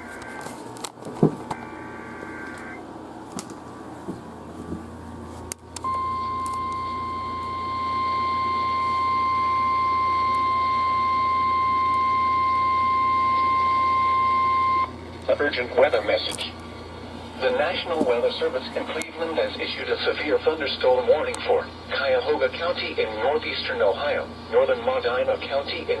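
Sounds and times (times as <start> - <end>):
steady warning alarm tone: 0.0 - 0.6, 1.5 - 2.9, 5.8 - 26.0.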